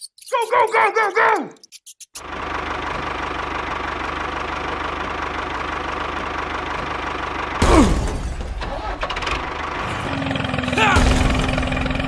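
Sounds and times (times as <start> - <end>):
tractor engine running: 2.2 - 12.0.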